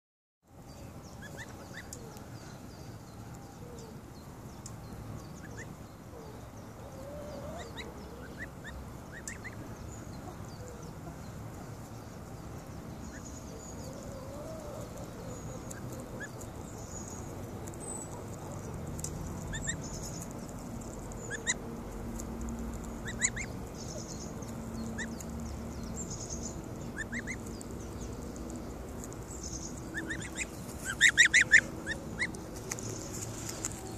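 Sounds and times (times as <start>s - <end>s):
goslings peeping: 1.2s - 2.2s, 5.4s - 11.9s, 12.6s - 33.6s.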